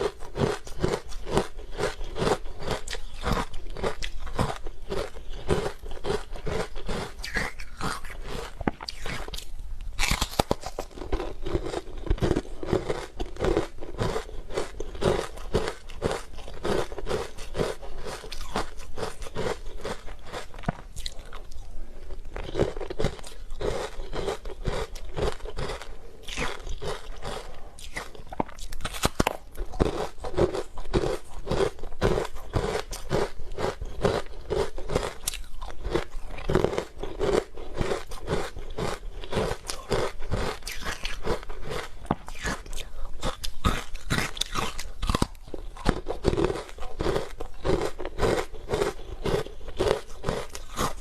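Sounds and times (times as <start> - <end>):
chewing ice crunching: 0.0 - 51.0.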